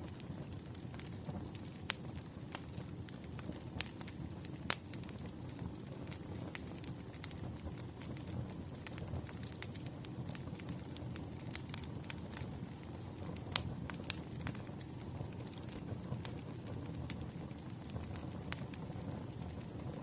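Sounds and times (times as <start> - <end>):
low rush of flames: 0.0 - 20.0
wood fire crackling and popping: 0.0 - 20.0.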